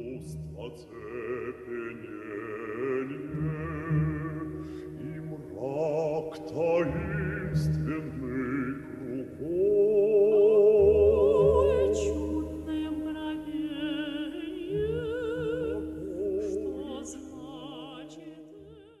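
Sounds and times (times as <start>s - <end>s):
operatic singing with vibrato: 0.0s - 19.0s
sustained accompaniment: 0.0s - 19.0s.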